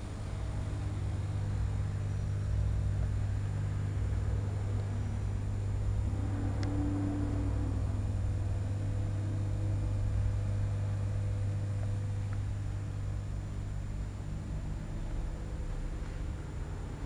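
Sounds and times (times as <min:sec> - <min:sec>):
low hum and rumble: 0:00.0 - 0:17.0.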